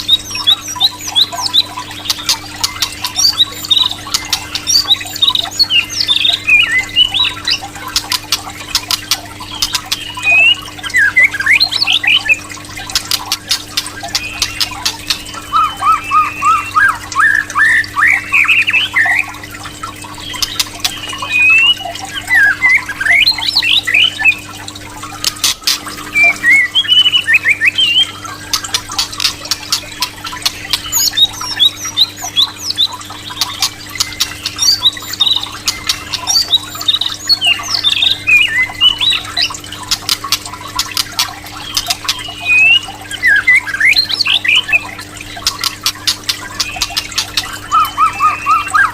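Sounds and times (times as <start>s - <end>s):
bird chirping and whistling: 0.0s - 19.4s, 20.2s - 24.6s, 25.2s - 48.9s.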